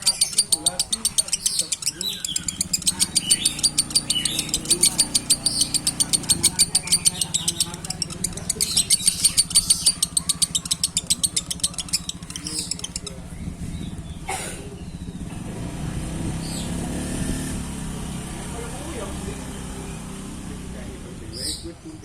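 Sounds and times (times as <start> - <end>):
bird chattering in rapid chirps: 0.0 - 15.3, 18.5 - 22.0
low engine hum: 0.0 - 22.0.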